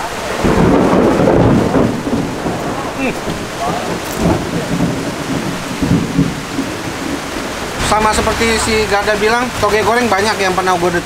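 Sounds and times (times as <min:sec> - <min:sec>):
low rumble of thunder: 0:00.0 - 0:09.9
rain falling: 0:00.0 - 0:11.0.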